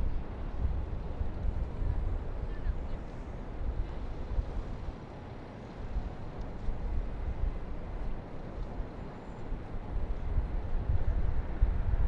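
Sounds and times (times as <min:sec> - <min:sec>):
wind rumbling on microphone: 0:00.0 - 0:05.0, 0:05.8 - 0:12.0.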